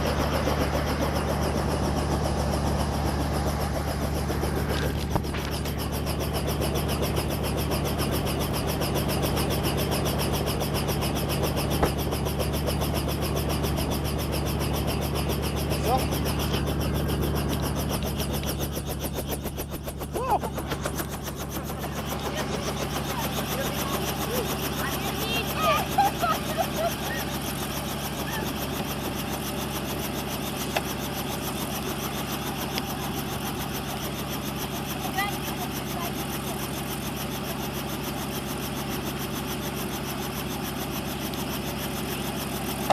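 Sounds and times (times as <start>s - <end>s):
helicopter running: 0.0s - 42.9s.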